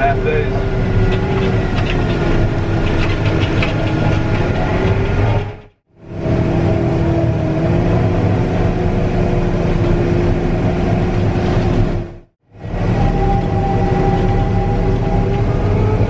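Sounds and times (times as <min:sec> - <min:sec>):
heavy farm machinery engine: 0:00.0 - 0:16.0
steady whining tone: 0:00.0 - 0:16.0.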